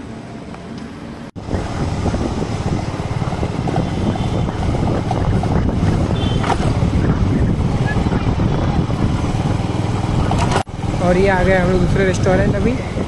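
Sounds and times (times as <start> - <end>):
motorcycle engine running: 1.4 - 13.0
wind buffeting microphone: 1.4 - 13.0.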